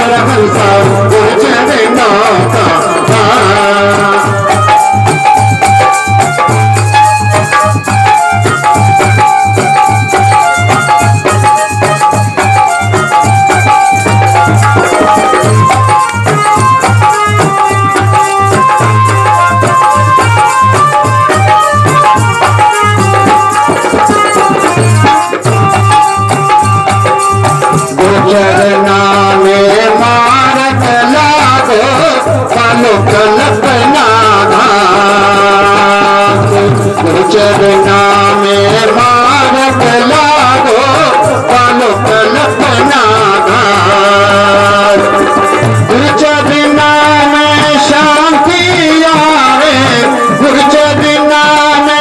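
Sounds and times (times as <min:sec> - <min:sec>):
instrumental melody: 0:00.0 - 0:52.0
rhythmic drum beat: 0:00.0 - 0:52.0.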